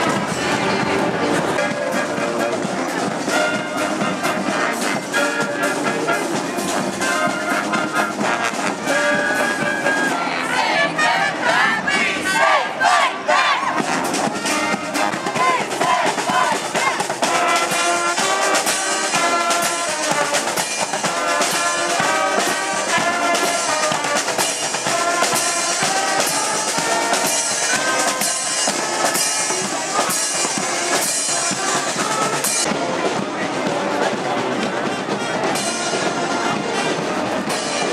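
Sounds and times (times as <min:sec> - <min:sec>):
brass band marching: 0:00.0 - 0:37.9
marching drums: 0:00.0 - 0:37.9.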